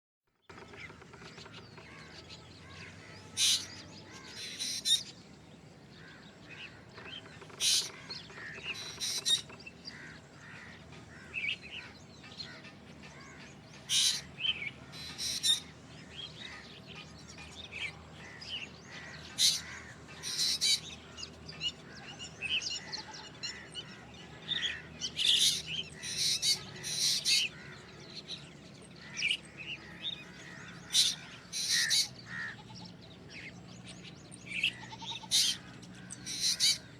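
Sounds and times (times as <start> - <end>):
bird sharp calls: 0.5 - 36.9.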